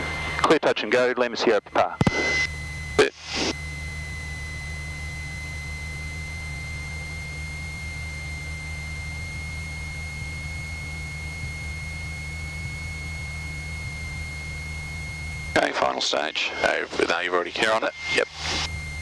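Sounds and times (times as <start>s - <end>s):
aircraft engine and propeller droning: 0.0s - 19.0s
steady high-pitched tone: 1.4s - 19.0s.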